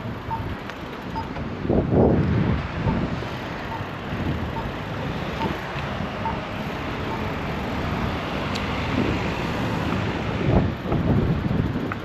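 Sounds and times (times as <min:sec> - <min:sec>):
street traffic: 0:00.0 - 0:12.0
wind on microphone: 0:00.0 - 0:12.0.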